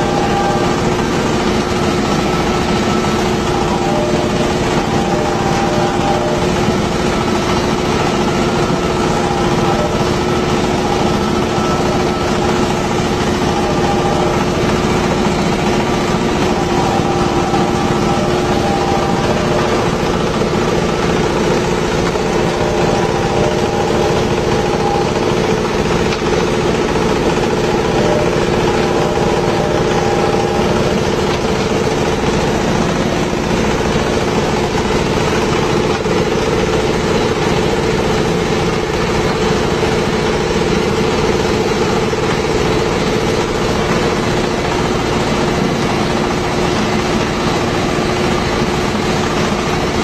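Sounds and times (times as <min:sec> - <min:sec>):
machine mechanical drone: 0:00.0 - 0:50.0.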